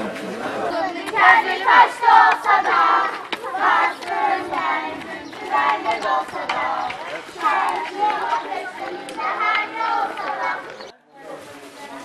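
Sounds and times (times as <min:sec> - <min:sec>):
children chanting: 0:00.0 - 0:10.9.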